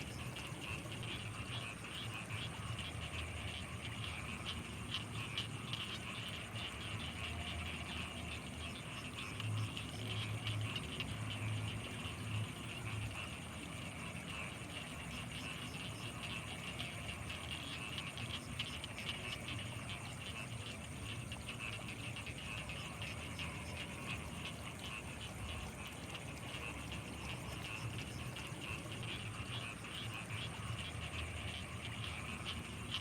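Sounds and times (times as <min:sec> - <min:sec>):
deep frog call: 0:00.0 - 0:33.0
frogs and insects chattering: 0:00.0 - 0:33.0.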